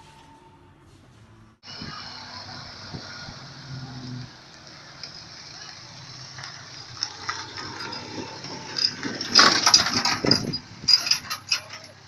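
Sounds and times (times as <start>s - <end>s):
van engine running: 1.6s - 12.0s.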